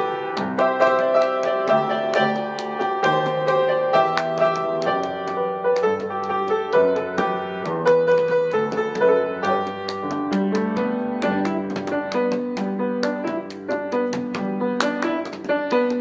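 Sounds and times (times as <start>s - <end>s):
instrumental music of struck notes: 0.0s - 16.0s.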